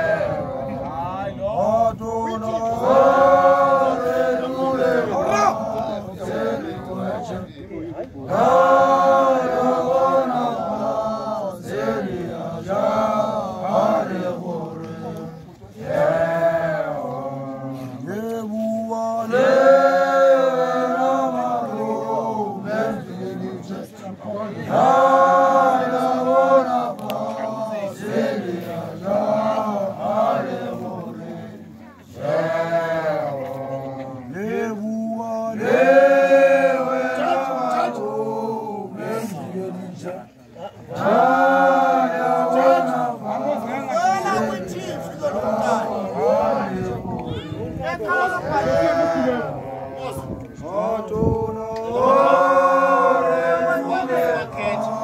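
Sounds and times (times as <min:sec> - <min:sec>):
group chanting a slow song: 0:00.0 - 0:55.0.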